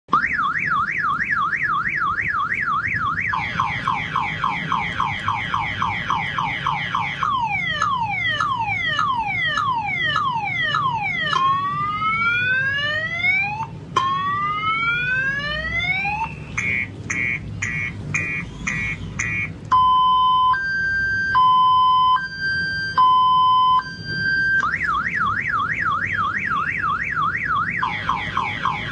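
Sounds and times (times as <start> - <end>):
electronic siren warbling: 0.1 - 28.9.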